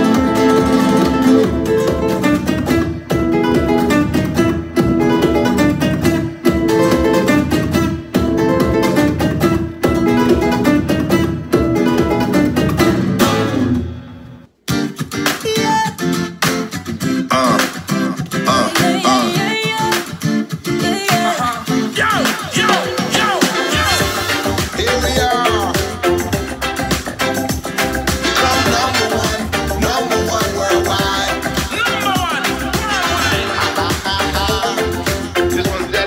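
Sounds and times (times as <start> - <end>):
guitar-led music track: 0.0 - 36.0
upbeat dance music with guitar: 0.0 - 36.0.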